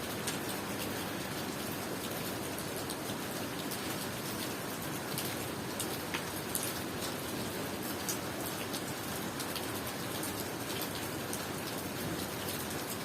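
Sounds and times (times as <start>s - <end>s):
raindrops tapping on surfaces: 0.0s - 13.0s
steady rain falling: 0.0s - 13.0s.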